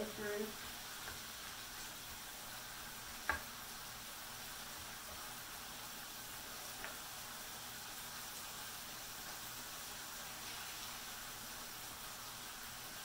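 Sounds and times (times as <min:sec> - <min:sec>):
meat sizzling in frying pan: 0:00.0 - 0:13.0.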